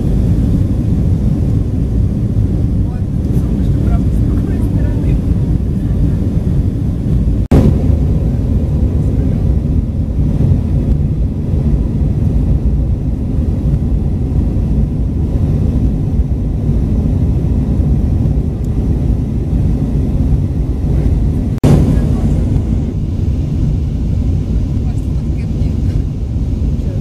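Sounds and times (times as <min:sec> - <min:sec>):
jet airliner cabin rumble: 0:00.0 - 0:27.0.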